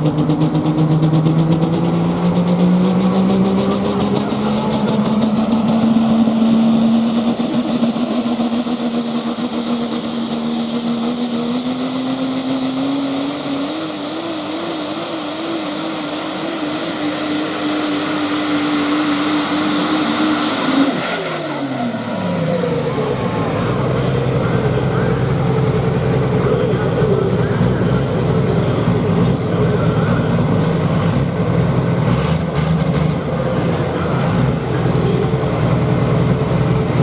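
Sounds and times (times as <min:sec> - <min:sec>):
diesel truck engine at full throttle: 0:00.0 - 0:37.0.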